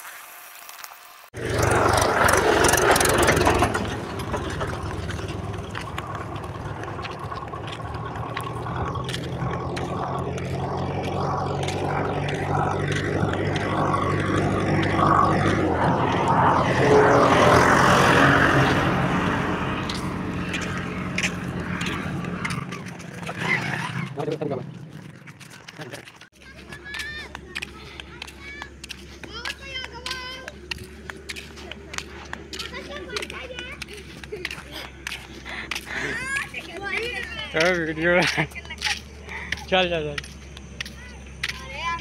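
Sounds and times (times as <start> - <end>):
tractor diesel engine passing: 1.3 - 42.0.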